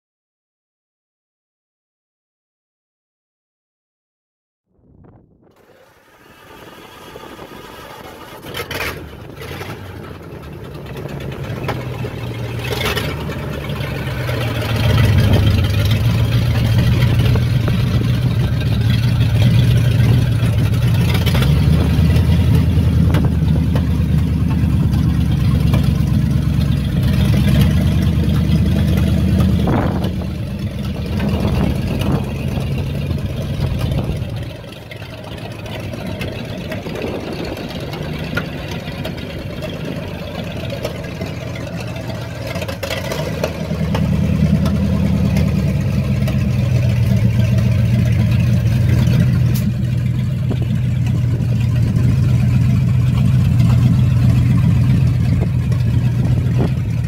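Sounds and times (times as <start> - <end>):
truck engine idling: 5.6 - 57.0.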